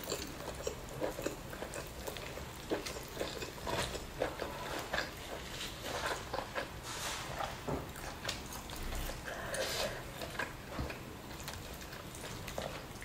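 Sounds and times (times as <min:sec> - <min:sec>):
person chewing meat: 0:00.0 - 0:13.0.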